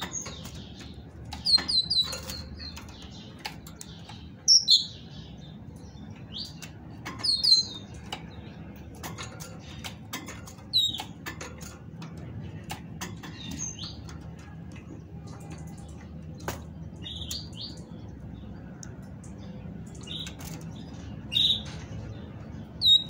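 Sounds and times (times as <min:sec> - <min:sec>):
bird hopping on cage wires: 0:00.0 - 0:04.8, 0:05.6 - 0:18.0, 0:18.9 - 0:23.0.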